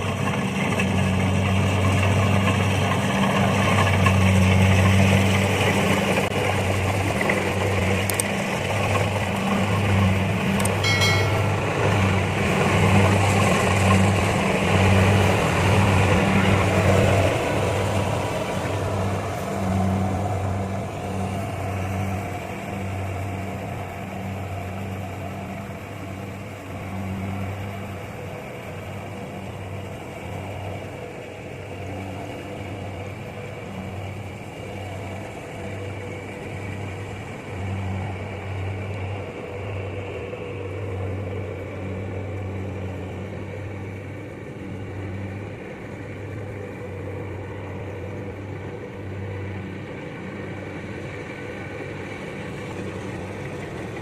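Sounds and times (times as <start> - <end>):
combine harvester engine drone: 0.0 - 54.0
steady mechanical hum: 0.0 - 54.0.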